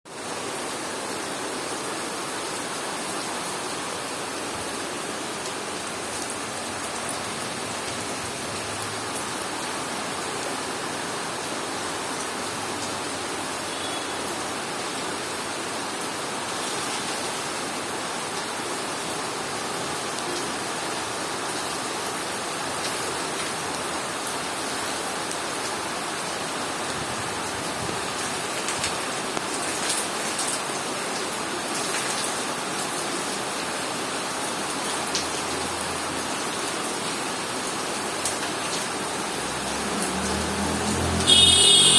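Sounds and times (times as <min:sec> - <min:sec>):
heavy rain falling: 0:00.1 - 0:41.9.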